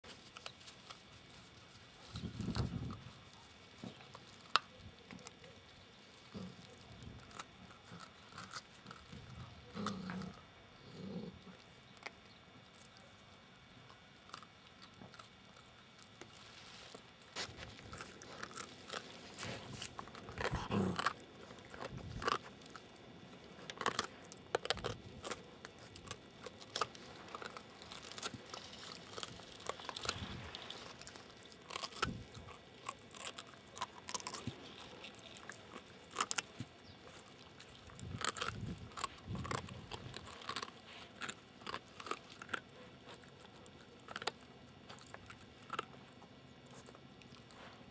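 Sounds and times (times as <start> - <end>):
puppy gnawing a bone: 0.0 - 47.9.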